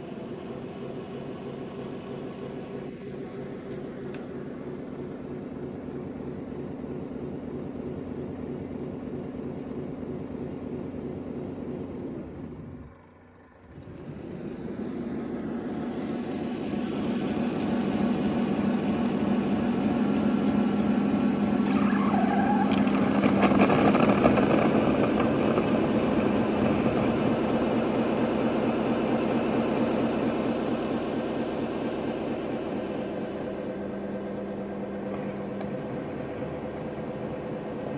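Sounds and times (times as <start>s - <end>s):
mechanical whir with low hum: 0.0s - 37.9s.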